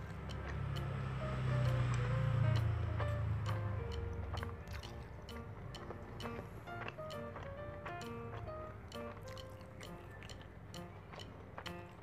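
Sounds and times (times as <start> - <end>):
melody of short stepped tones: 0.0 - 12.0.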